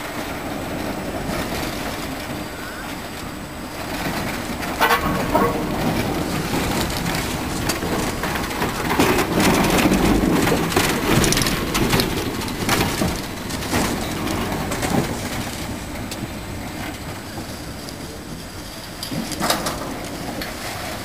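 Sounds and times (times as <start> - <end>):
tram clattering knocks: 0.0 - 21.0
tram rumbling: 0.0 - 21.0.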